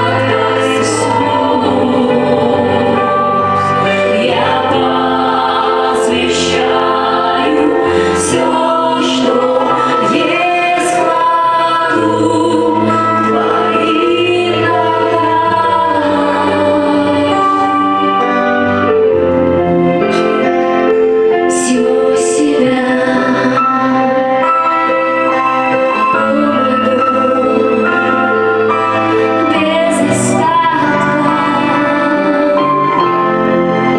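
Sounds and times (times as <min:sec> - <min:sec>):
choir singing a worship song: 0:00.0 - 0:20.5, 0:21.5 - 0:33.9
held musical chords: 0:00.0 - 0:33.9.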